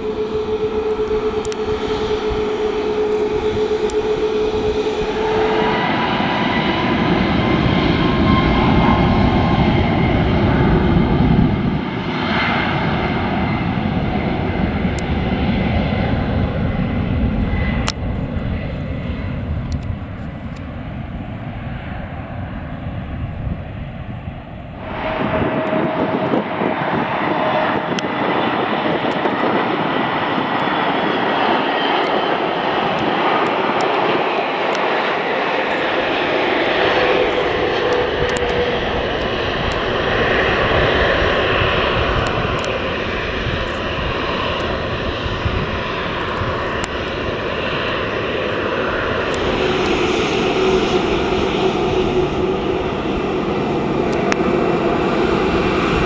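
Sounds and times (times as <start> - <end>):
jet engines hissing with faint whine: 0.0 - 56.0
jet engines rumbling at takeoff: 0.0 - 56.0.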